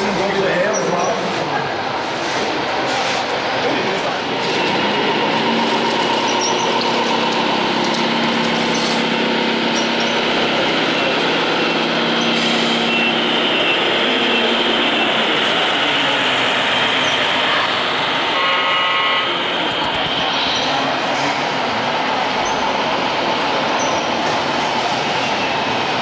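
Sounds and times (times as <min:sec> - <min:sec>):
dense constant background noise: 0:00.0 - 0:26.0
simulated truck engine: 0:00.0 - 0:26.0.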